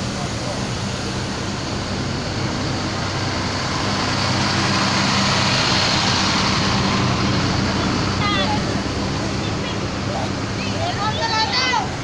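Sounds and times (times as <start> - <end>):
bus diesel engines driving past: 0.0 - 12.0
road noise: 0.0 - 12.0.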